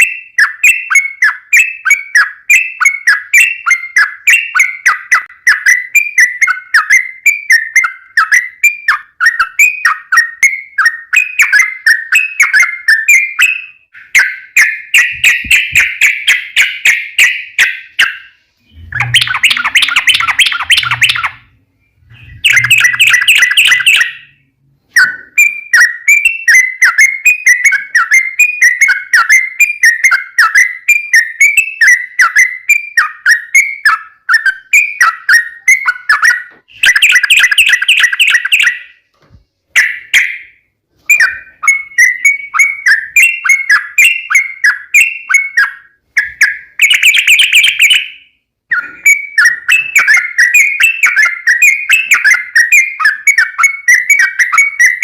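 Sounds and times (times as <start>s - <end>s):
bulbul chirping song: 0.0s - 39.1s, 39.7s - 55.0s.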